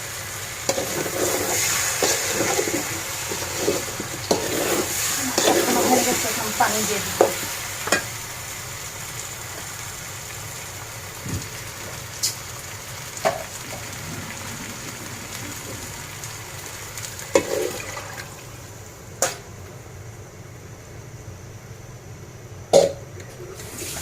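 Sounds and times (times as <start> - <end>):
food sizzling in a pot: 0.0 - 19.7, 22.7 - 24.0.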